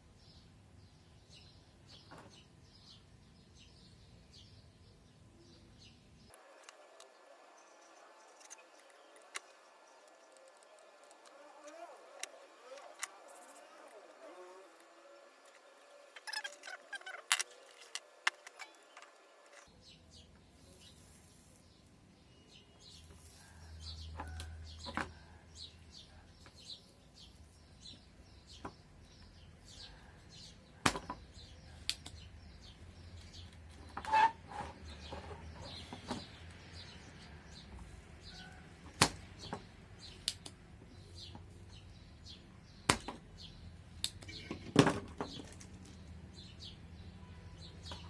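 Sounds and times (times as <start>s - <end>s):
birds chirping: 0.2s - 48.0s.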